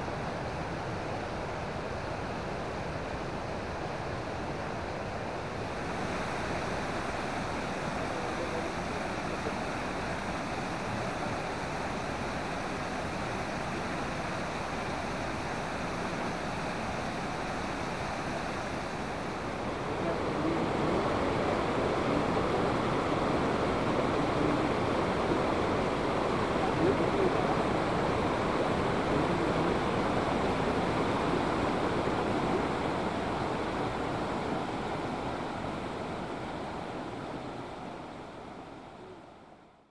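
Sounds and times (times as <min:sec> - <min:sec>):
waterfall rushing: 0:03.8 - 0:37.4.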